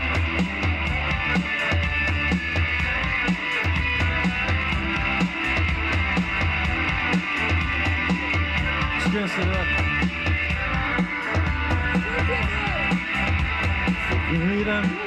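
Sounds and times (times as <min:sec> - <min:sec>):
drum kit beat: 0:00.0 - 0:15.0
electric guitar: 0:00.0 - 0:15.0.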